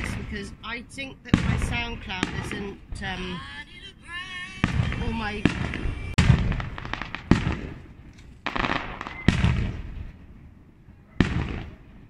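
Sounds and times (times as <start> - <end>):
firework bangs: 0.0 - 10.4, 11.2 - 12.0.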